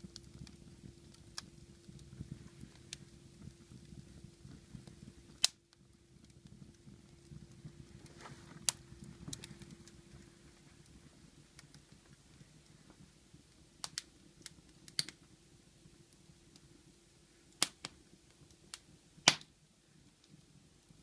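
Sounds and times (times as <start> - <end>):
faint steady hum: 0.0 - 21.0
wood fire crackling: 0.0 - 21.0.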